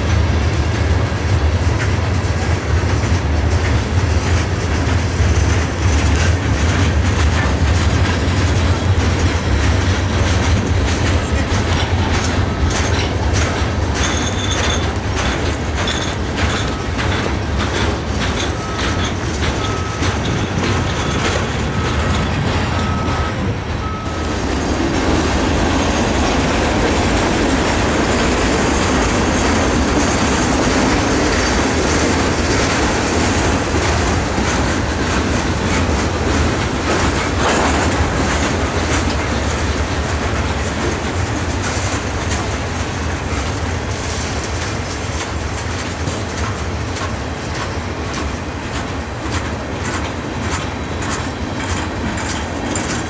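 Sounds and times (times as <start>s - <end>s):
freight train wheels rumbling on rail: 0.0s - 53.0s
wheels clicking over rail joints: 0.0s - 53.0s.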